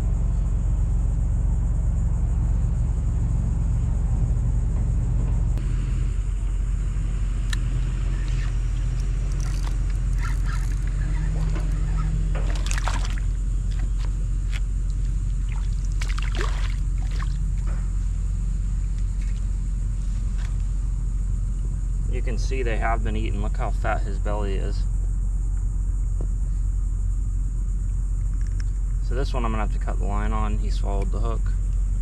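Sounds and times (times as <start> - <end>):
ship engine rumble: 0.0 - 32.0.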